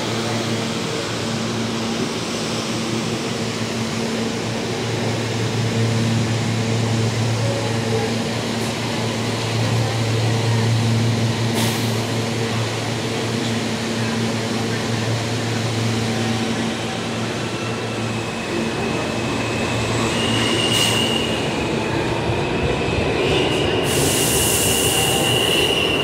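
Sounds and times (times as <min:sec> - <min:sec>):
subway car equipment humming: 0:00.0 - 0:26.0.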